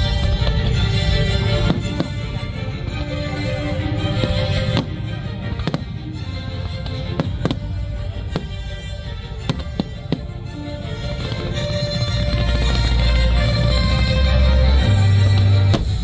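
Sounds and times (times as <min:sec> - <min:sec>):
music playing: 0:00.0 - 0:16.0.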